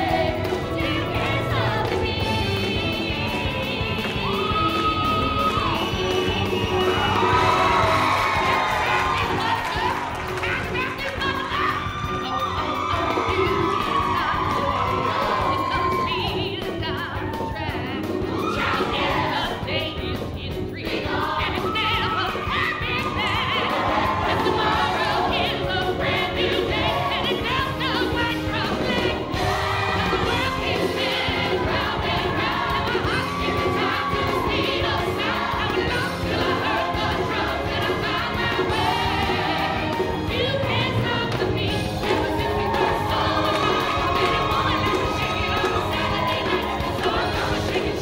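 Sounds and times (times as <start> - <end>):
show tune with voices and band: 0.0 - 48.0.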